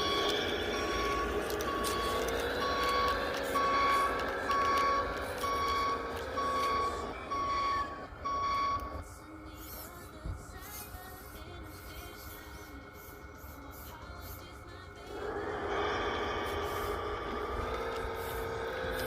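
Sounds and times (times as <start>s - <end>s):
small toy motor whining: 0.0s - 19.0s
toy reversing beep: 0.0s - 19.0s.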